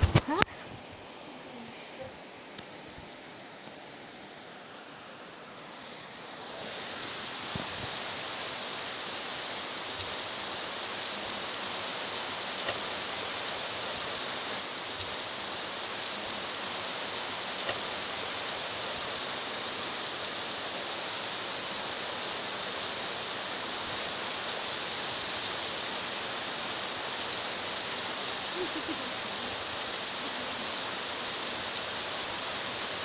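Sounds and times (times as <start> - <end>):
steady rain pouring: 0.0 - 33.0.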